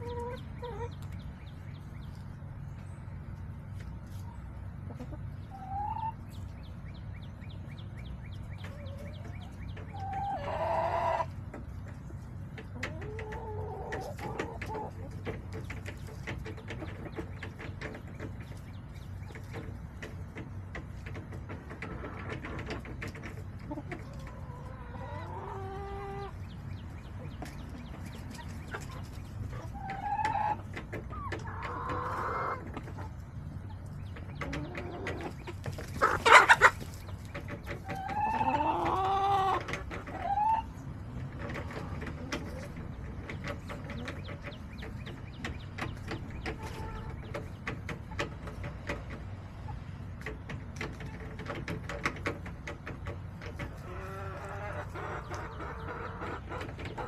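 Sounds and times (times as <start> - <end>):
hens clucking: 0.0 - 57.0.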